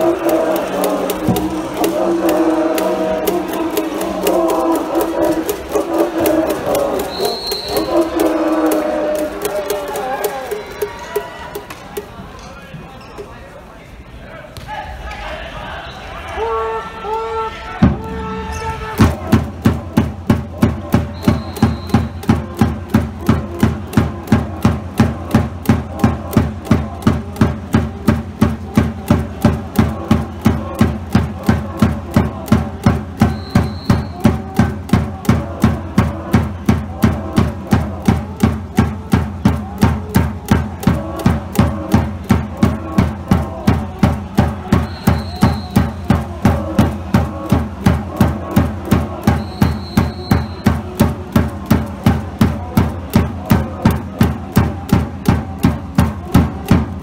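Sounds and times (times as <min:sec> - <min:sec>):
drum beating steadily: 0:00.0 - 0:12.2, 0:17.8 - 0:57.0.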